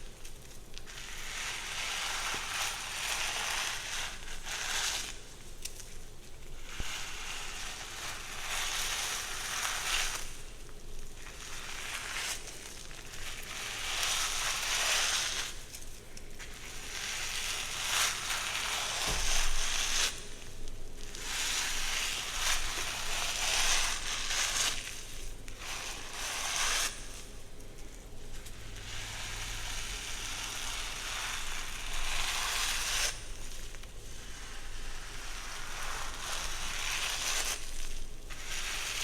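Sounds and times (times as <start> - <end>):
hair rustling under strokes: 0.0 - 39.0.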